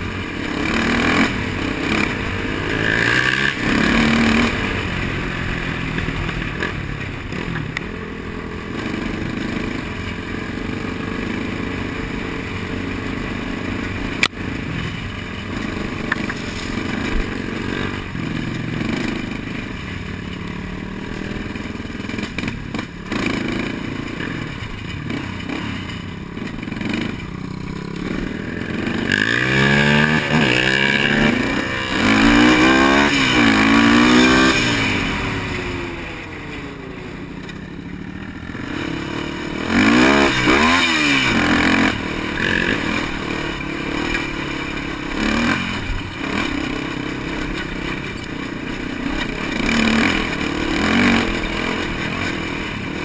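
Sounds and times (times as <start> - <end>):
engine revving: 0.0 - 53.0
quad engine running: 0.0 - 53.0.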